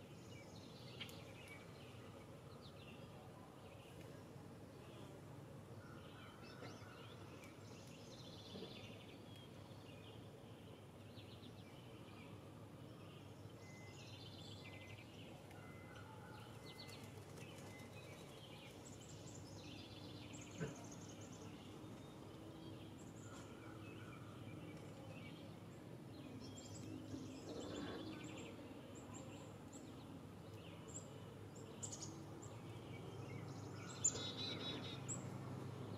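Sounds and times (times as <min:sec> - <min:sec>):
low outdoor hiss: 0:00.0 - 0:35.9
birds calling and trilling: 0:05.8 - 0:35.9.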